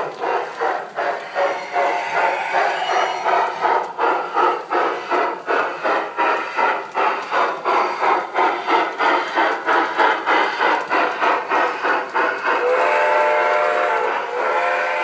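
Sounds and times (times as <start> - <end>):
model locomotive steam chuffs: 0.0 - 15.0.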